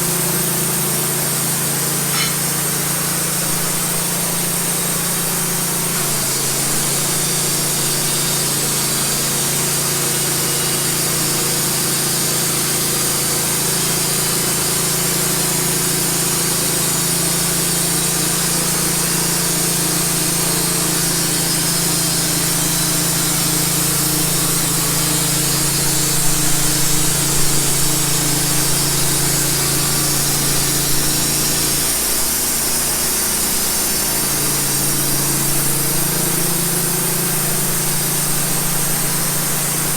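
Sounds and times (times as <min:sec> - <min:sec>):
sawmill engine drone: 0:00.0 - 0:39.9
band blade sawing log: 0:01.6 - 0:13.6, 0:16.2 - 0:39.9.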